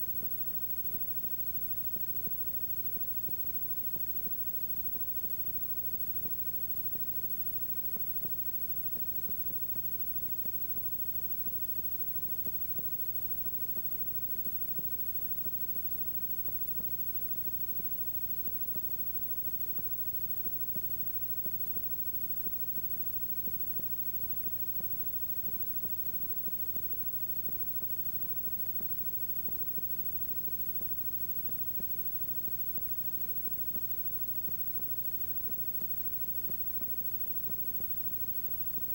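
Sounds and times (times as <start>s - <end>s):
tape hiss: 0.0s - 38.9s.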